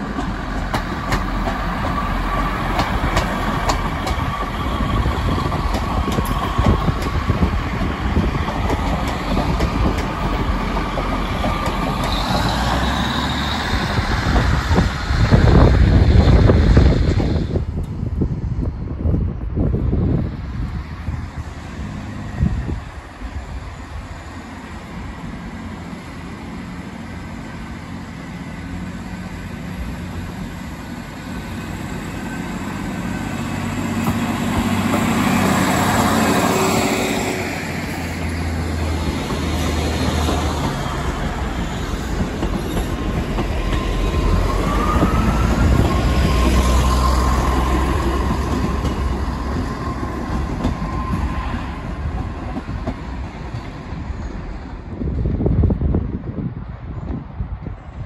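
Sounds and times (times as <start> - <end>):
train diesel engines rumbling: 0.0 - 58.0
train wheels on rails: 0.0 - 58.0.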